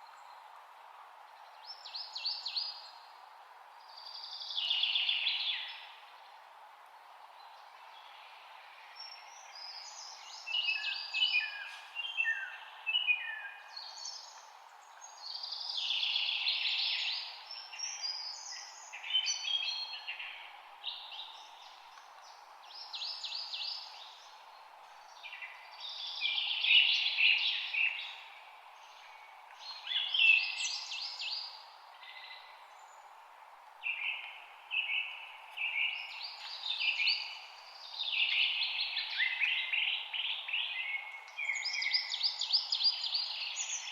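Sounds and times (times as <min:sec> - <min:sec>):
faint hiss: 0:00.0 - 0:43.9
songbirds chirping and trilling: 0:00.0 - 0:43.9.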